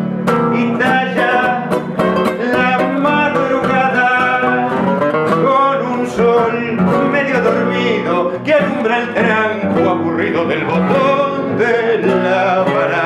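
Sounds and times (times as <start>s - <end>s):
classical guitars playing tango: 0.0s - 13.0s
man singing: 0.2s - 13.0s.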